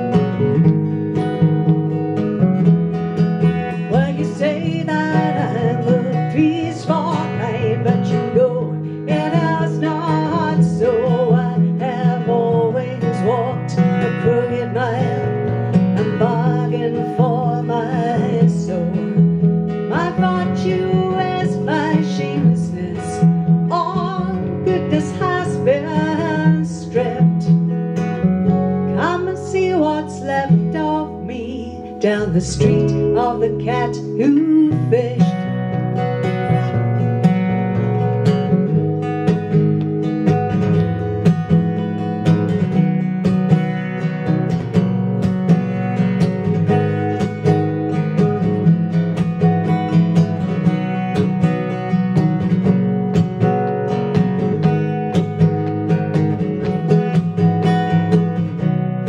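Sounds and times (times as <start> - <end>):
electric bass guitar: 0.0 - 59.0
strummed acoustic guitar: 0.0 - 59.0.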